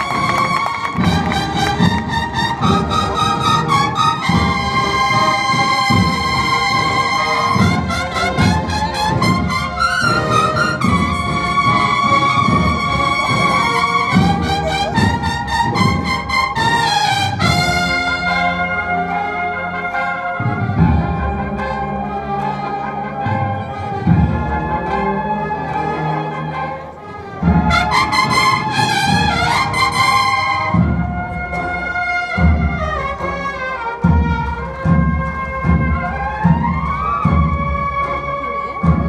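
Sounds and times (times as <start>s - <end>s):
brass band playing: 0.0s - 39.0s.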